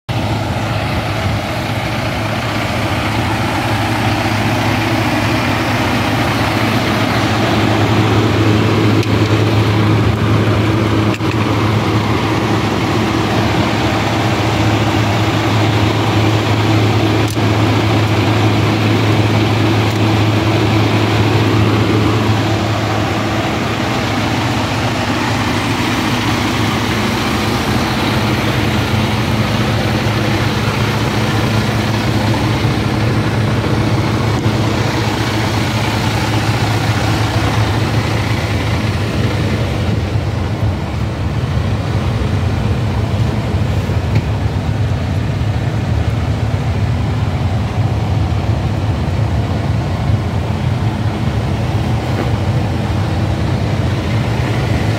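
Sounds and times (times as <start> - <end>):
diesel truck engine idling: 0.1 - 54.9.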